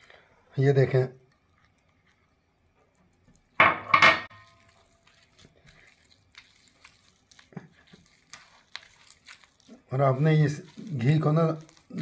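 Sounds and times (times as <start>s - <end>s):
margarine squishing and rubbing: 0.7s - 3.6s, 4.3s - 12.0s.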